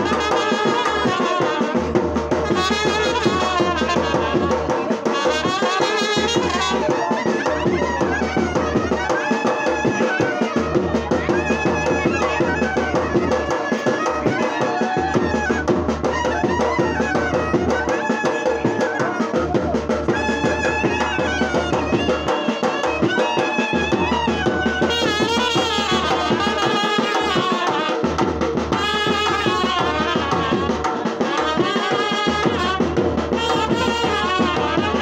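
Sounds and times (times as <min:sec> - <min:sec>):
drumbeats: 0:00.0 - 0:35.0
trumpets playing melody: 0:00.0 - 0:35.0.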